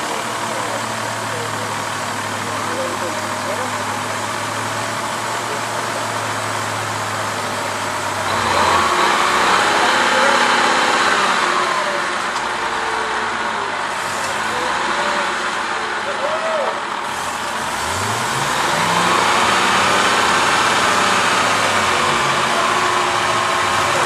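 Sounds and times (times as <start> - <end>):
heavy truck engine under load: 0.0 - 24.0.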